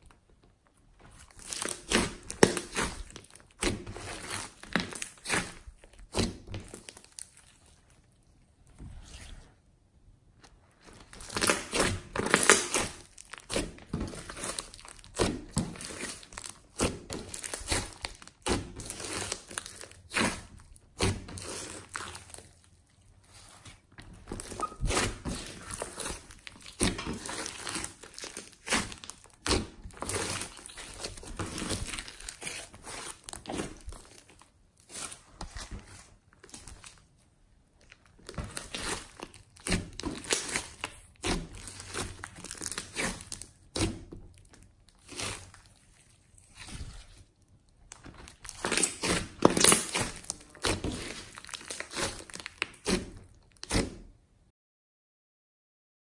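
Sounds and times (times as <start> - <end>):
slime crackling and popping: 0.8 - 8.3, 10.9 - 37.1, 37.7 - 54.0.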